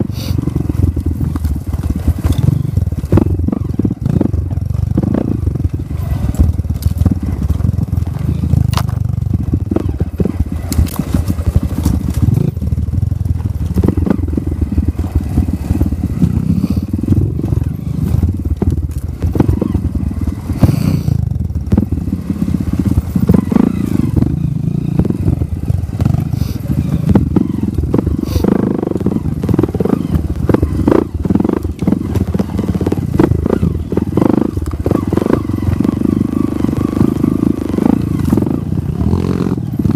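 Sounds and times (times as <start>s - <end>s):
knocks and rattles of bike: 0.0s - 39.9s
motorcycle engine running: 0.0s - 39.9s.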